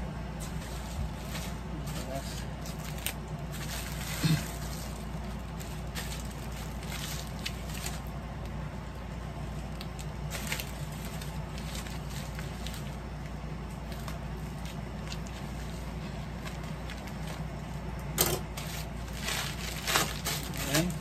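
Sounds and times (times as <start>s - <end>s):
steady low hum: 0.0s - 21.0s
plastic wrapping crinkling and tearing: 0.5s - 8.6s, 9.4s - 17.8s, 18.5s - 21.0s.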